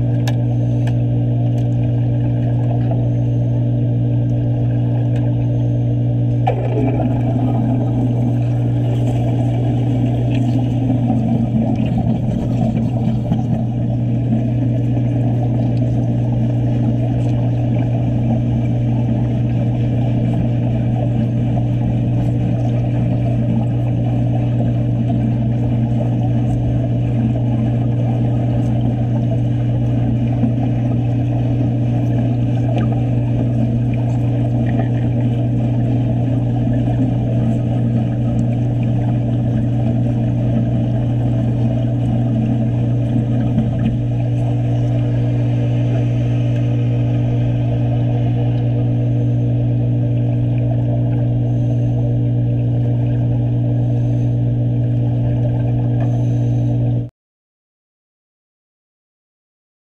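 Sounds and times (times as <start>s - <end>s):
low machine hum: 0.0s - 57.1s.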